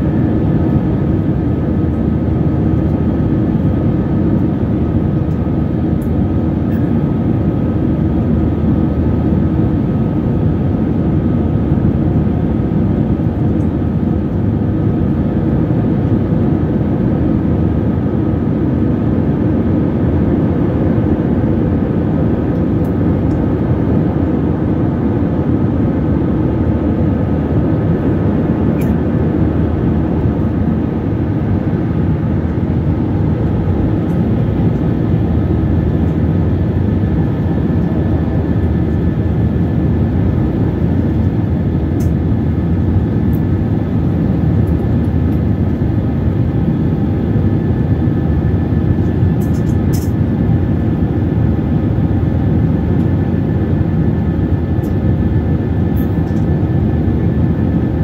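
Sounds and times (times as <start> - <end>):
faint steady whine: 0.0 - 58.0
jet engine rumble: 0.0 - 58.0.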